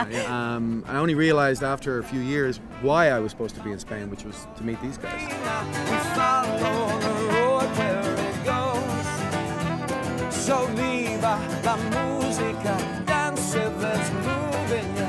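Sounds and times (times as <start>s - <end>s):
strummed acoustic guitar: 0.0s - 15.0s
man singing: 1.9s - 15.0s
trumpet playing: 2.0s - 15.0s.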